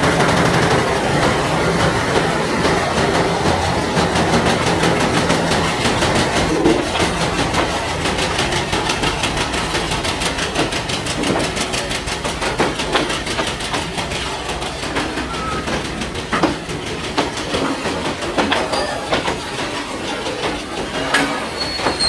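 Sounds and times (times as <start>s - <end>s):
freight wagon wheels clicking on rail joints: 0.0s - 22.0s
train rumble: 0.0s - 22.0s.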